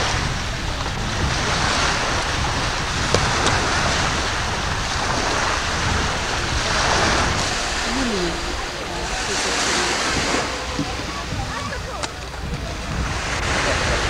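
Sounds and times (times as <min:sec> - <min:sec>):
surf washing on shore: 0:00.0 - 0:14.0
wind rumbling on microphone: 0:00.0 - 0:14.0.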